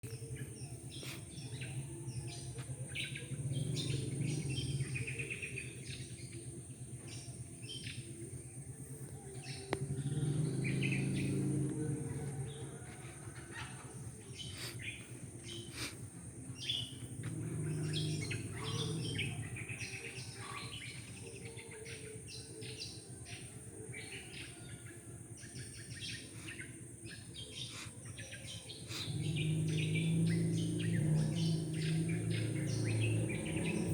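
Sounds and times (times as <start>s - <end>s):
songbirds chirping: 0.0s - 33.9s.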